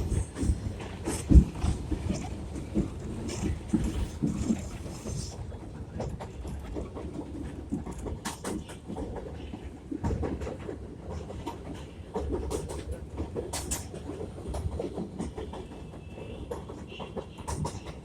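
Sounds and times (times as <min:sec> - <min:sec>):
subway train wheels rumbling: 0:00.0 - 0:18.0
wheels clicking over rail joints: 0:00.0 - 0:18.0.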